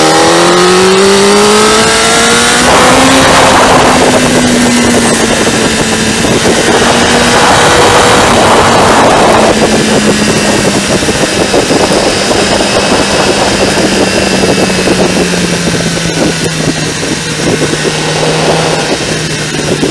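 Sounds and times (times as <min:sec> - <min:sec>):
motorcycle engine running: 0:00.0 - 0:19.9
wind rush over microphone: 0:00.0 - 0:19.9.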